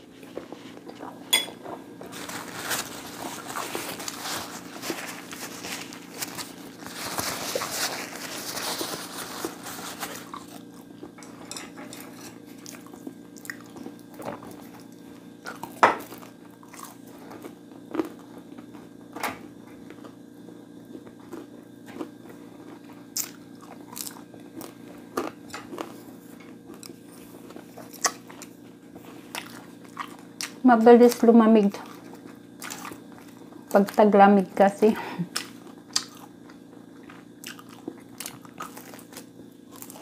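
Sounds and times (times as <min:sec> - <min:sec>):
steady low hum: 0:00.0 - 0:40.0
chewing and crunching food: 0:00.1 - 0:34.2, 0:35.0 - 0:40.0.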